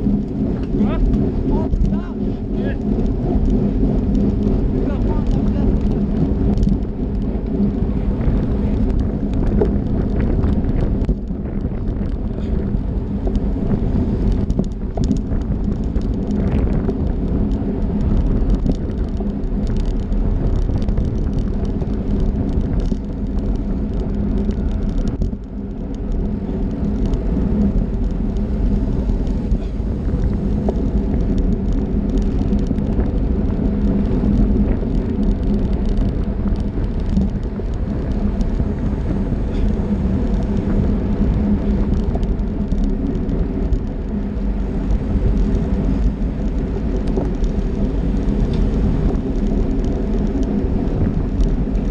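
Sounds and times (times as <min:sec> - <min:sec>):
bicycle tyre and road noise: 0:00.0 - 0:51.9
wind rumbling on microphone: 0:00.0 - 0:51.9.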